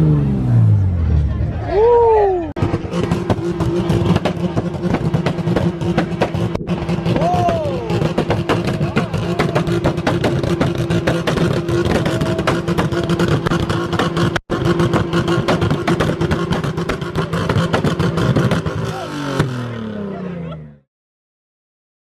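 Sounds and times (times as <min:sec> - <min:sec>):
car engine on rev limiter: 0:02.6 - 0:20.9.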